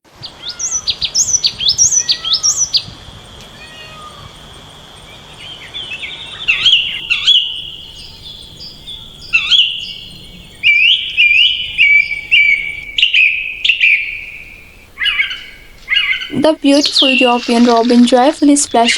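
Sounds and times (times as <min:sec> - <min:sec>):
songbirds chirping: 0:00.1 - 0:18.9.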